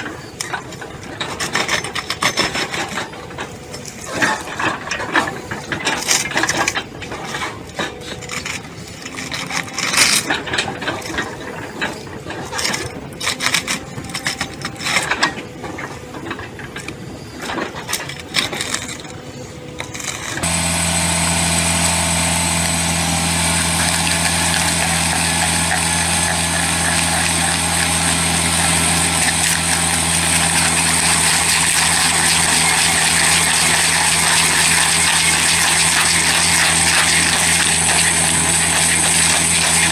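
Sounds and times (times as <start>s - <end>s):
large engine running steadily: 0.0s - 39.9s.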